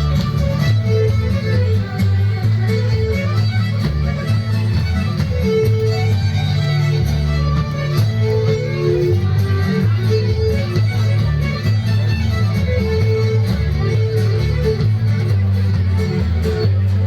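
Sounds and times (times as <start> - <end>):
fiddles playing a tune: 0.0 - 17.0
guitar accompaniment: 0.0 - 17.0
low bass line: 0.0 - 17.0.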